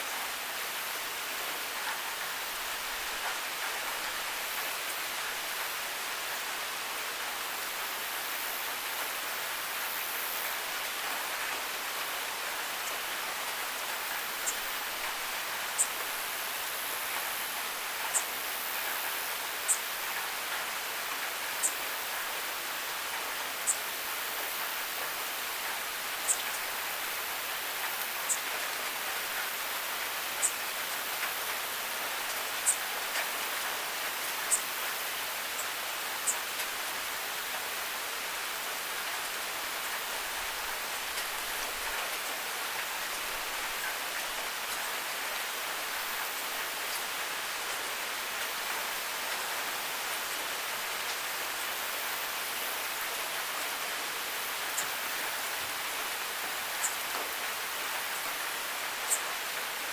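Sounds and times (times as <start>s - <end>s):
rain on a gutter: 0.0s - 59.9s.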